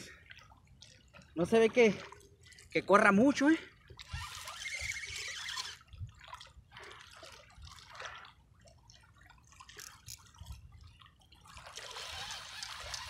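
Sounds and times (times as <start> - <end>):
shallow water lapping at shore: 0.0 - 13.0.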